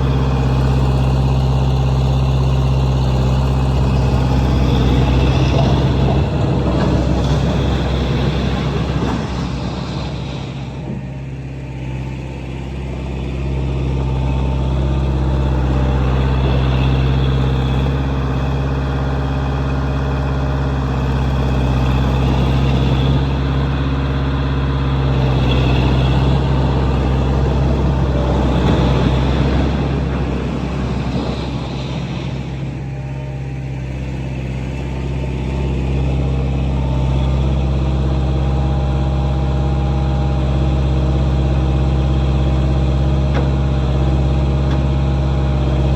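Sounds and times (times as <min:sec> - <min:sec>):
wheel loader engine running: 0:00.0 - 0:45.9.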